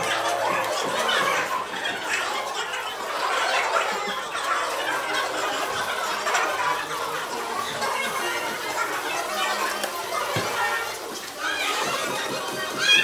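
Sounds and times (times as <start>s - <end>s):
many voices talking: 0.0s - 13.0s.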